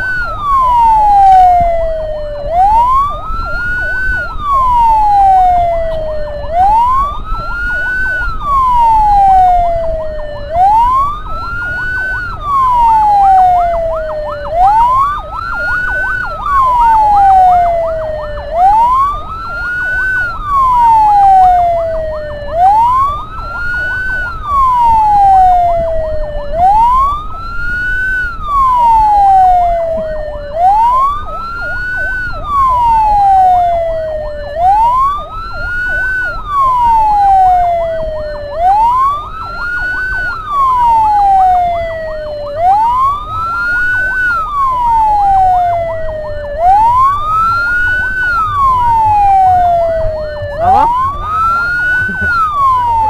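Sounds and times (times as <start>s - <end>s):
ambulance siren wailing: 0.0s - 53.0s
road and engine rumble: 0.0s - 53.0s
yelping siren tone: 0.0s - 53.0s.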